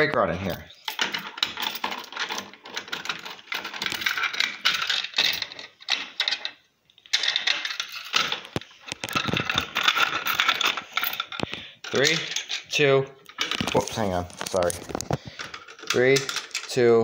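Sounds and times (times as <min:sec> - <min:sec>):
plastic clicking and clattering: 0:00.9 - 0:12.6, 0:13.2 - 0:16.7.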